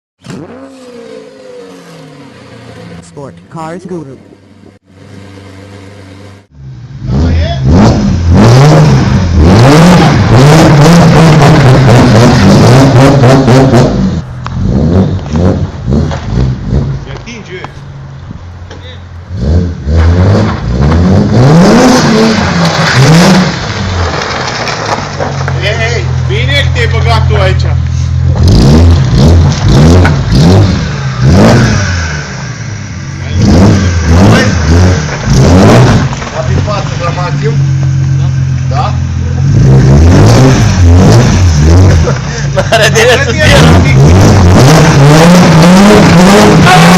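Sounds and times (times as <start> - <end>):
car engine revving: 0.2 - 46.9
exhaust crackles: 5.8 - 46.9.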